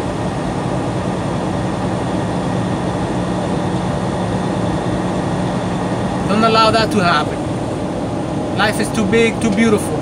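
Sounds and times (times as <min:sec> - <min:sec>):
truck drone inside cab: 0:00.0 - 0:10.0.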